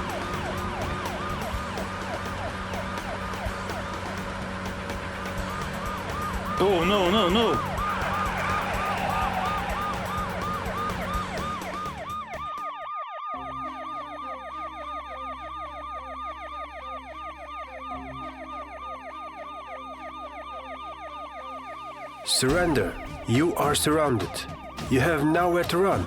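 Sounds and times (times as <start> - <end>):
police sirens yelping: 0.0 - 26.0.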